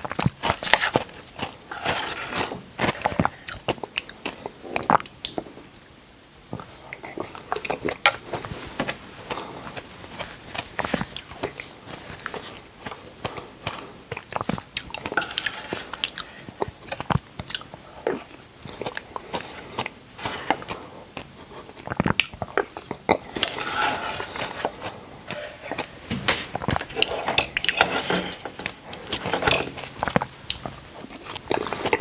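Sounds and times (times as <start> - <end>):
fruit being chewed: 0.0 - 5.9, 9.2 - 32.0.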